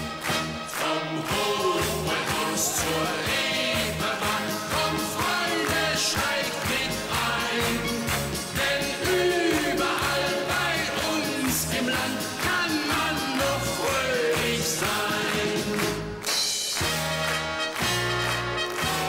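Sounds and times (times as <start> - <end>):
band playing upbeat polka: 0.0 - 19.0
voices singing along: 0.7 - 16.1.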